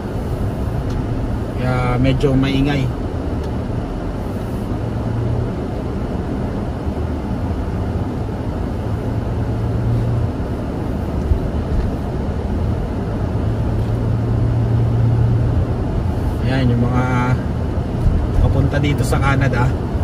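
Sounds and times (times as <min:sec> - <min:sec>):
car road hum: 0:00.0 - 0:20.0.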